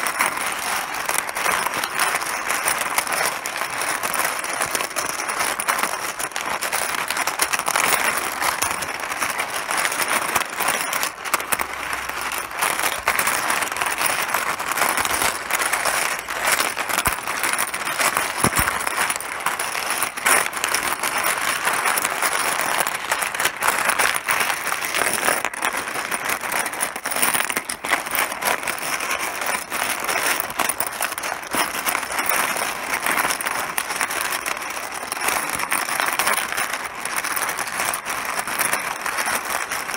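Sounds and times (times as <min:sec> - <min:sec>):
mahjong tiles clattering: 0:00.0 - 0:39.9.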